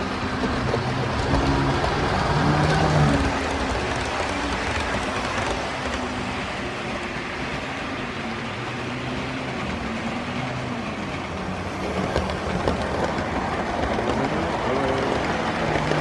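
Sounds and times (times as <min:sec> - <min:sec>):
model train rolling rumble: 0:00.0 - 0:16.0
train wheels clicking on rail joints: 0:00.0 - 0:16.0.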